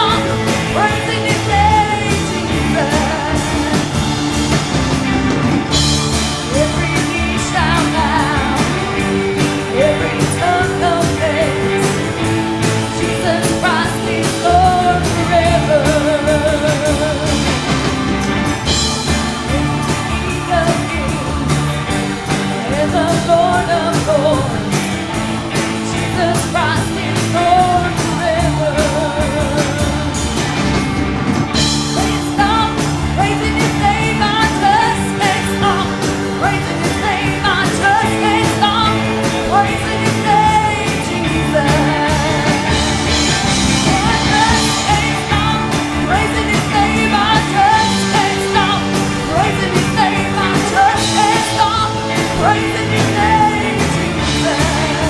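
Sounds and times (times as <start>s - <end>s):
band playing worship music: 0.0s - 55.0s
people singing: 0.0s - 55.0s.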